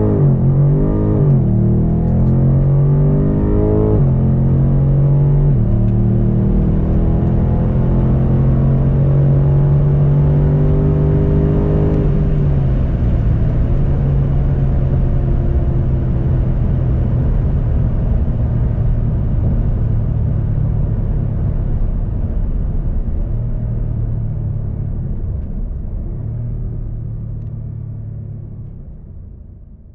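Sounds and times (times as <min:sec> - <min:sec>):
car engine running under load: 0:00.0 - 0:29.5.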